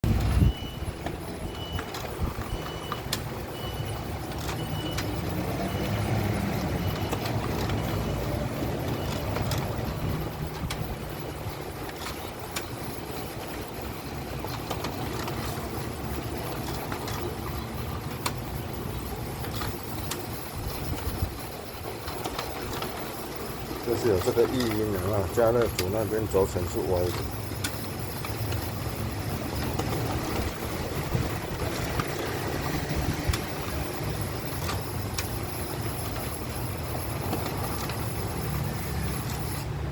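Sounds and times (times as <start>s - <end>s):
printer clicks: 0.0s - 39.8s
laser printer droning: 0.1s - 39.9s.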